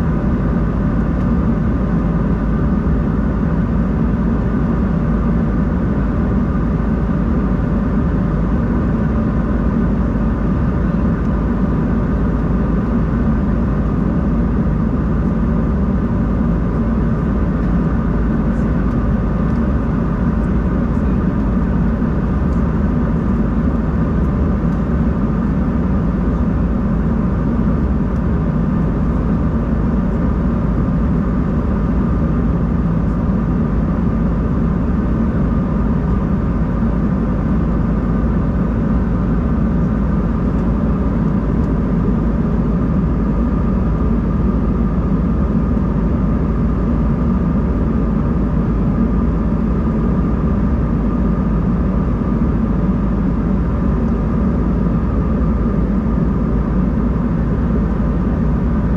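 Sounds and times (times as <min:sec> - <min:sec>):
airliner cabin engine rumble: 0:00.0 - 0:58.9.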